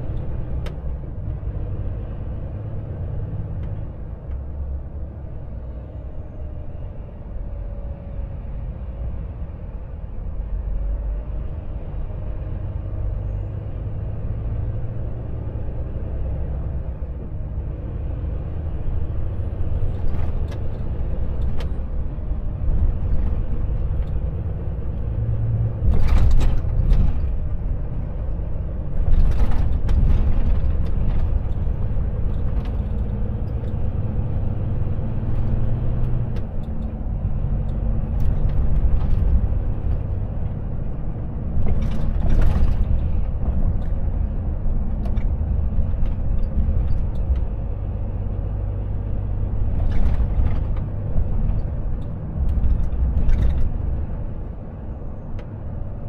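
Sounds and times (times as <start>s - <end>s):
road rumble: 0.0s - 56.0s
truck diesel engine: 0.0s - 56.0s.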